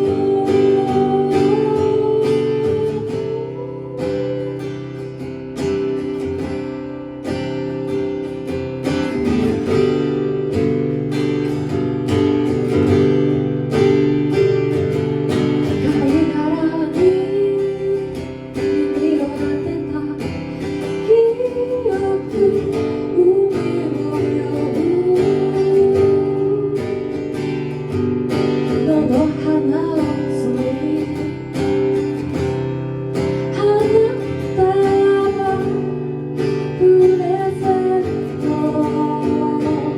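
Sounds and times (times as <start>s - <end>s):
strummed acoustic guitar chords: 0.0s - 39.9s
wavering guitar melody: 0.0s - 39.9s.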